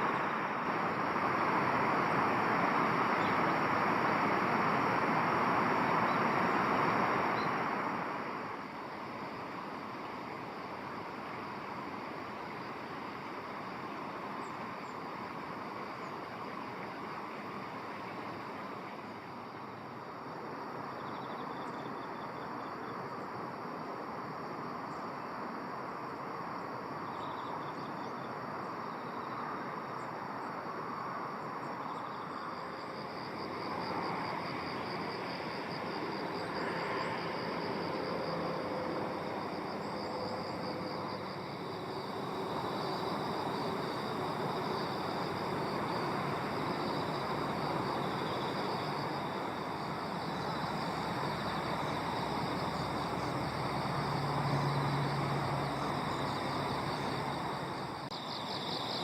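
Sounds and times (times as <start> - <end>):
steady rushing background noise: 0.0 - 21.7, 28.4 - 58.2
insects trilling: 0.0 - 59.0.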